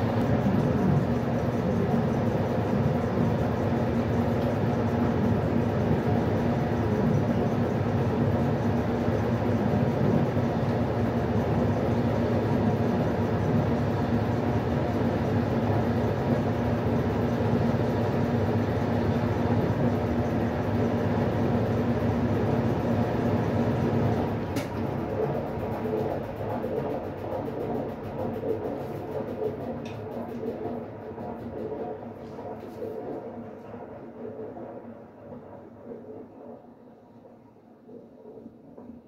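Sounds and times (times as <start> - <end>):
washing machine rumbling: 0.0 - 39.0.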